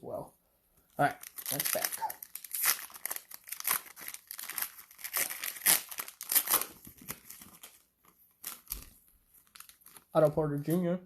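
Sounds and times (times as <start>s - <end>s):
plastic wrapper crinkling and tearing: 1.0s - 10.7s.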